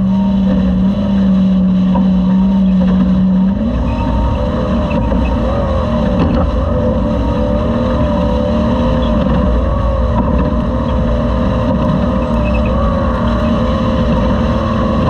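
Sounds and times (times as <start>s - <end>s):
heavy low rumble: 0.0s - 15.0s
truck engine running hard: 0.0s - 15.0s.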